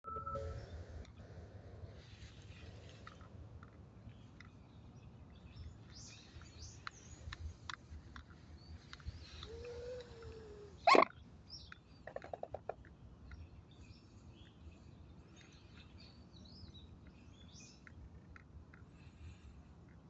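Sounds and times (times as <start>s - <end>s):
small birds chirping: 2.0s - 20.0s.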